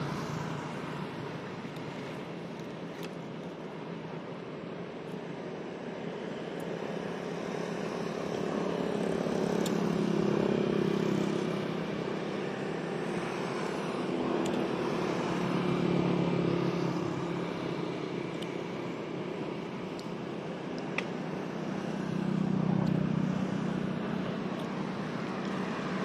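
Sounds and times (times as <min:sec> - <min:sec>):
passing traffic engines: 0:00.0 - 0:26.0.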